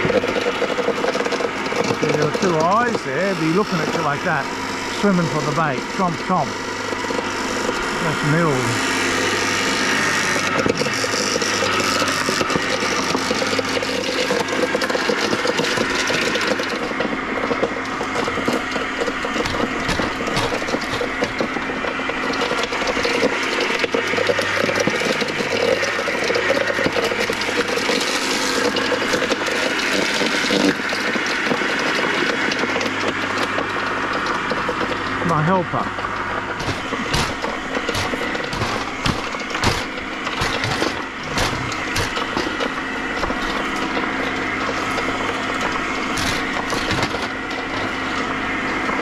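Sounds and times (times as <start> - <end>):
blades crackling and rattling: 0.0 - 49.0
electric shredder running: 0.0 - 49.0.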